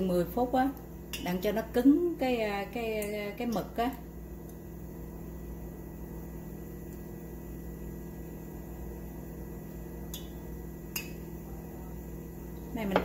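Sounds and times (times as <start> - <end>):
appliance hum with hiss: 0.0 - 13.0.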